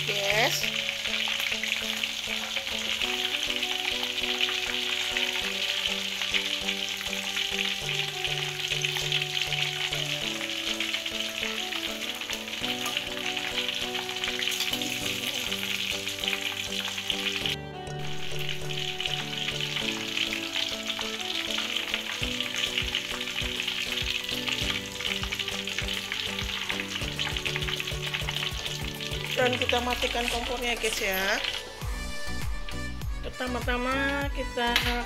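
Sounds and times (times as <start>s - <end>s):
chicken deep-frying in oil: 0.0s - 31.8s.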